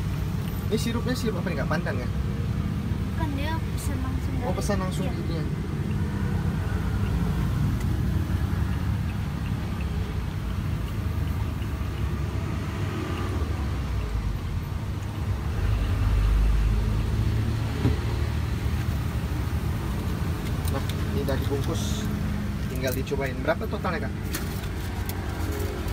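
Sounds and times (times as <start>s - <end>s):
road traffic rumbling: 0.0s - 25.9s
vehicle passing: 0.7s - 25.9s.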